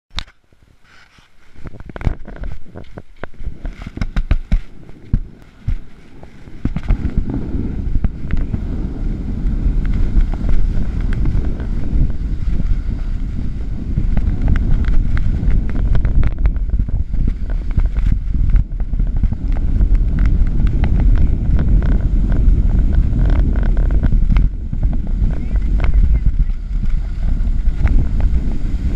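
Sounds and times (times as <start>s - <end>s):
skis scraping over snow: 0.7s - 28.9s
wind buffeting microphone: 1.5s - 28.9s.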